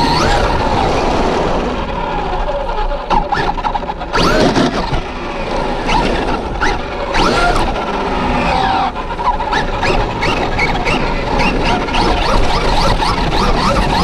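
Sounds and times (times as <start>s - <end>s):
rc truck motor whining: 0.0s - 14.0s
tyre noise on asphalt: 0.0s - 14.0s.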